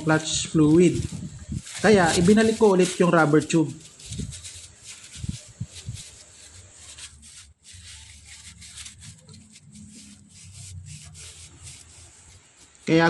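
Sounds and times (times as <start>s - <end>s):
low rubbing and rustling: 0.0s - 13.0s.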